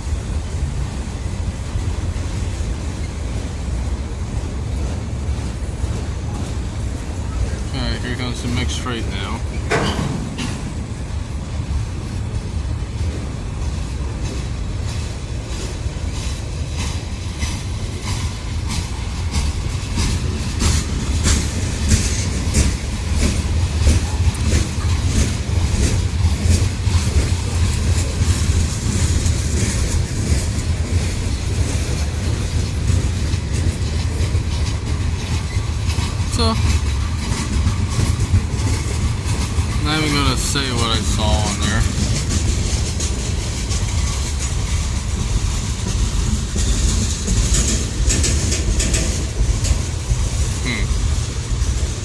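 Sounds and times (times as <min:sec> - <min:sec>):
train wheels rumbling: 0:00.0 - 0:52.0
wheels clicking over rail joints: 0:00.3 - 0:52.0.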